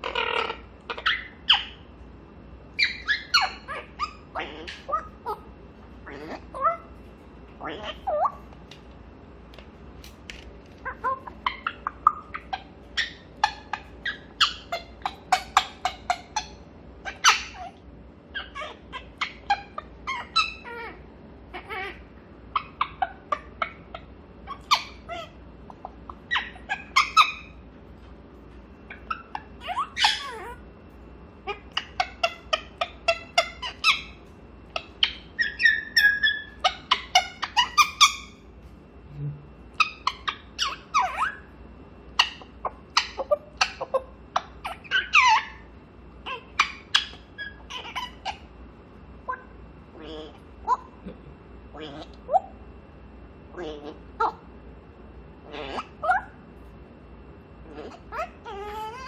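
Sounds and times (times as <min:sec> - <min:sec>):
parrot chattering: 0:00.0 - 0:02.0, 0:02.7 - 0:08.5, 0:10.8 - 0:28.0, 0:28.7 - 0:38.5, 0:39.6 - 0:52.8, 0:53.4 - 0:59.0.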